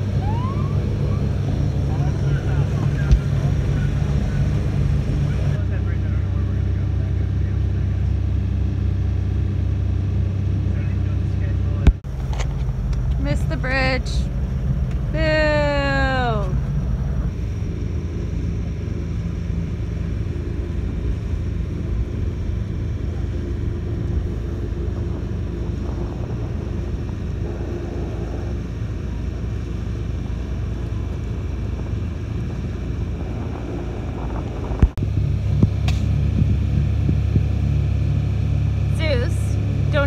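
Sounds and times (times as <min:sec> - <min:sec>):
boat engine rumble: 0:00.0 - 0:40.0.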